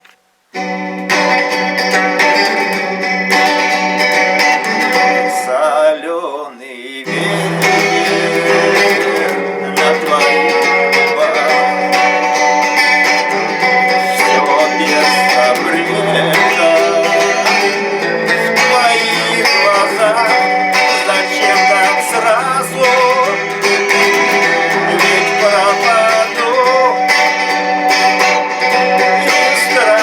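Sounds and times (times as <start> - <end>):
guitar-led music: 0.0 - 30.0.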